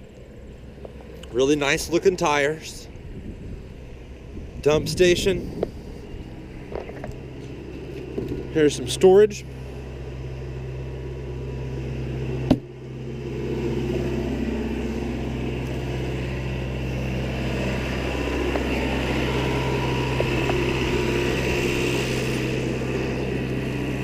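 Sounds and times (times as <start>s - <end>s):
low rumble and hum: 0.0s - 24.0s.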